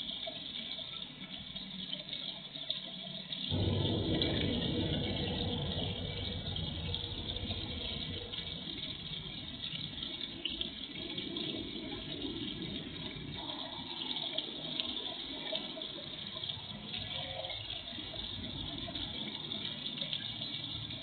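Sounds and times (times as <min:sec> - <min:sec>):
fountain splashing into water: 0:00.0 - 0:21.0.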